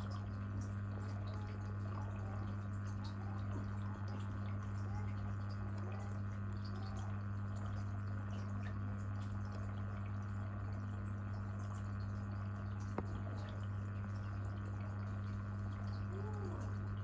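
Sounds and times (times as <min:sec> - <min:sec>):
aquarium pump humming: 0:00.0 - 0:17.0
faint dripping: 0:00.0 - 0:17.0
water trickling: 0:00.0 - 0:17.0.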